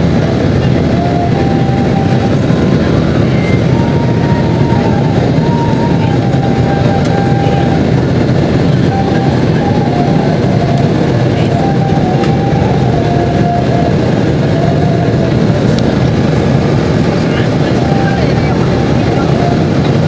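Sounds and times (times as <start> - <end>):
airplane cabin engine roar: 0.0 - 20.0
faint wavering whine: 0.0 - 20.0.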